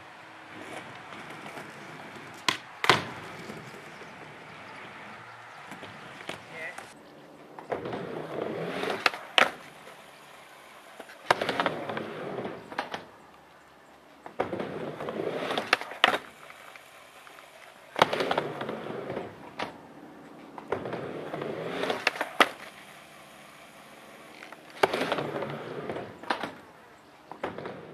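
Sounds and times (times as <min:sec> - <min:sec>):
skateboard wheels rolling on ramp: 0:00.0 - 0:13.3, 0:14.0 - 0:27.9
skateboard clacking on ramp: 0:00.4 - 0:07.0, 0:07.6 - 0:13.1, 0:14.2 - 0:26.7, 0:27.3 - 0:27.9.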